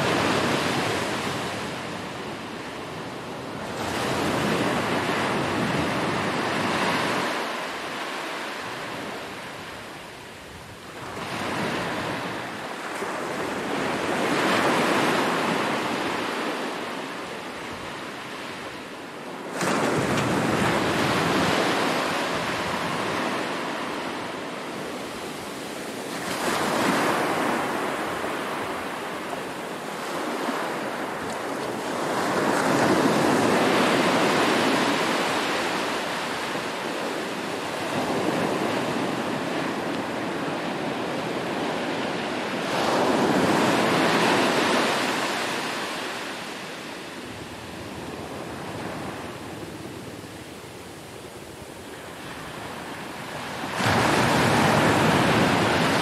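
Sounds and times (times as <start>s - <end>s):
surf breaking on a beach: 0.0s - 56.0s.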